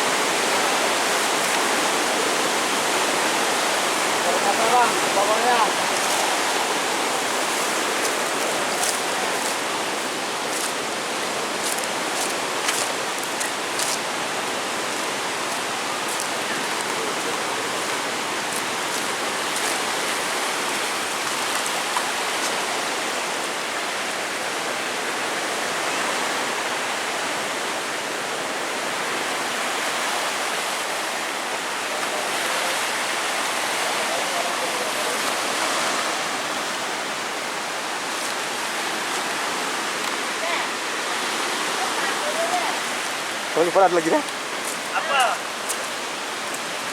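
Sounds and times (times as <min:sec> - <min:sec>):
turbulent river water rushing: 0:00.0 - 0:46.9.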